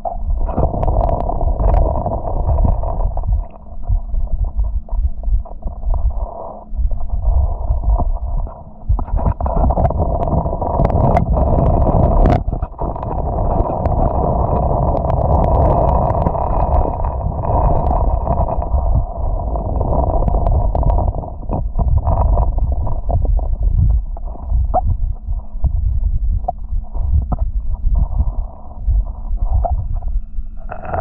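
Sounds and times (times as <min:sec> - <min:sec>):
muffled underwater river rumble: 0:00.0 - 0:31.0.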